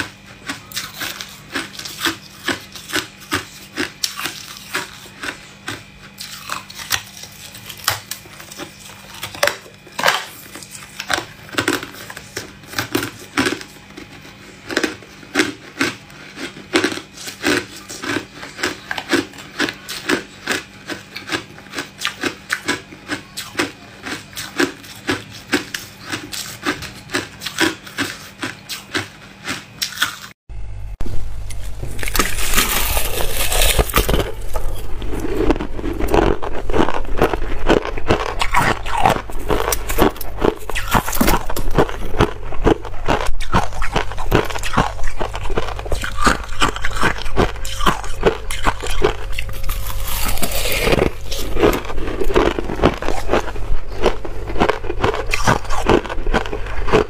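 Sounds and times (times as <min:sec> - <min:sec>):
person chewing hard ice: 0:00.0 - 0:30.4, 0:31.4 - 0:57.0.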